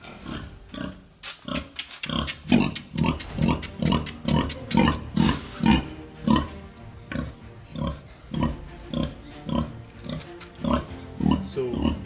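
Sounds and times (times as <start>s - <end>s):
pig grunting: 0.0s - 12.0s.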